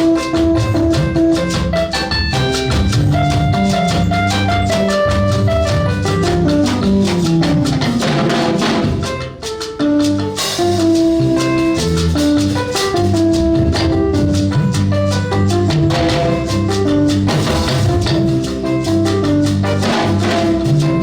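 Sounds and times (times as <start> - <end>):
instrumental music with drums: 0.0 - 21.0.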